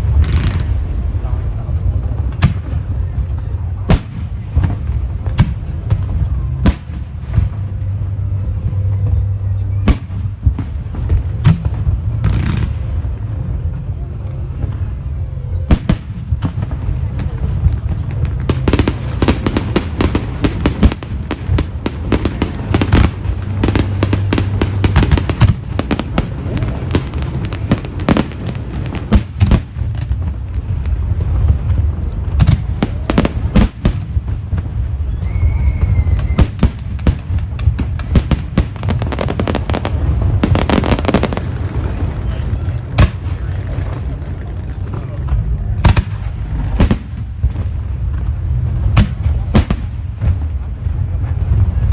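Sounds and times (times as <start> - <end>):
continuous low rumble: 0.0 - 51.9
fireworks bangs and crackling: 0.0 - 51.9.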